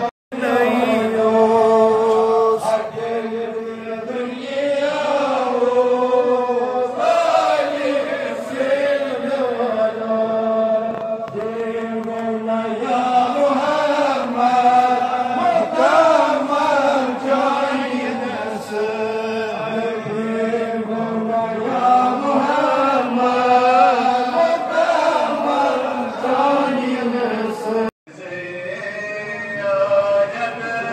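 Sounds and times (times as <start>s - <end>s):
men chanting together: 0.0s - 27.9s.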